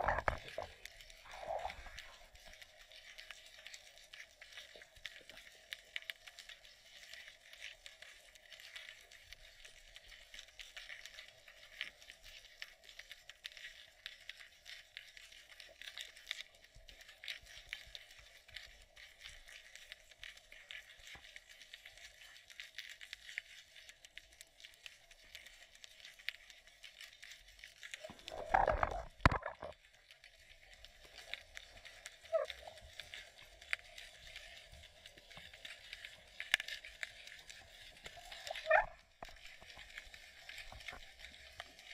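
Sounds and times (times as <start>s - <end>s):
steady underwater hum: 0.0s - 41.9s
underwater crackle of small clicks: 0.0s - 41.9s.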